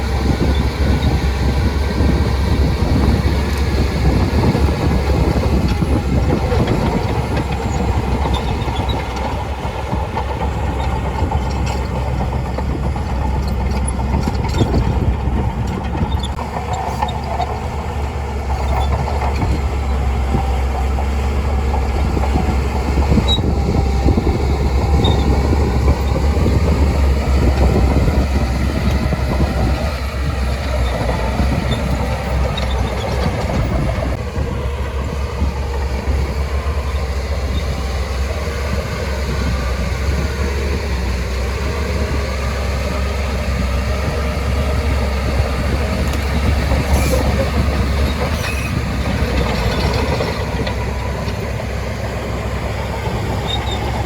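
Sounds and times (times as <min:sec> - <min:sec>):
bulldozer diesel engine rumbling: 0:00.0 - 0:54.0
crawler tracks running: 0:00.0 - 0:54.0.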